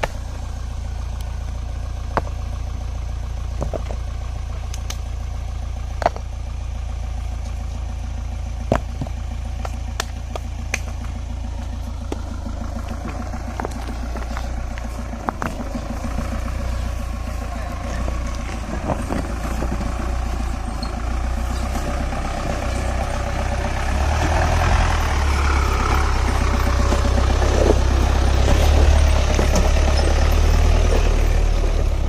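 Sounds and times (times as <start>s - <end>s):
car engine running at low speed: 0.0s - 32.0s.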